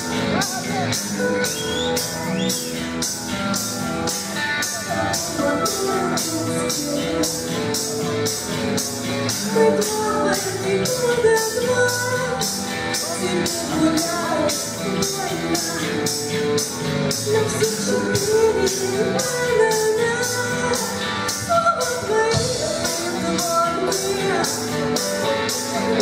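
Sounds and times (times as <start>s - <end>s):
person singing: 0.0s - 3.2s, 4.0s - 26.0s
pop-rock band playing: 0.0s - 26.0s
steady drum beat: 0.0s - 26.0s.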